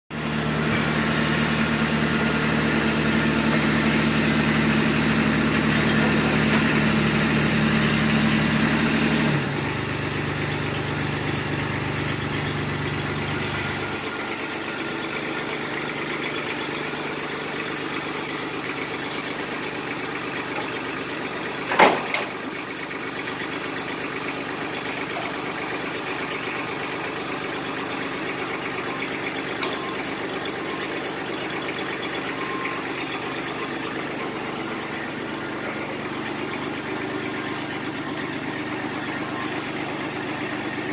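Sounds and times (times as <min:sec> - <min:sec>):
loader engine running: 0:00.1 - 0:40.9.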